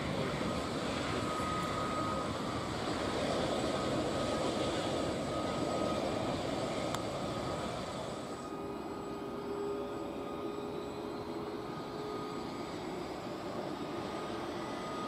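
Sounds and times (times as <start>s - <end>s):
helicopter turbine whine: 0.0s - 15.0s.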